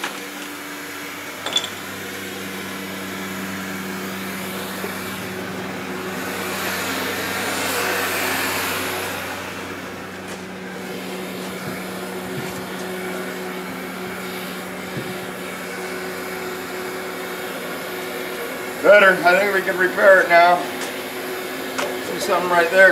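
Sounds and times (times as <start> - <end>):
heat gun fan whir and air rush: 0.0 - 22.9.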